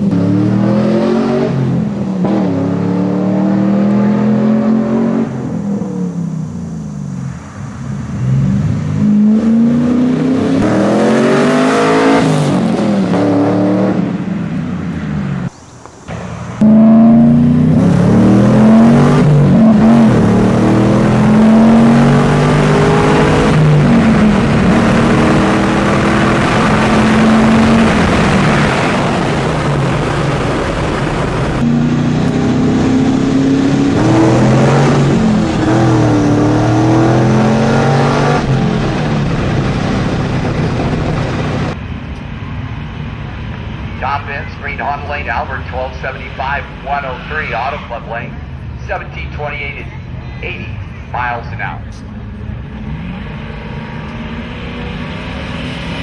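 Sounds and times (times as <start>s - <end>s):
car engine accelerating hard: 0.0s - 15.5s, 16.1s - 41.9s, 43.3s - 56.0s.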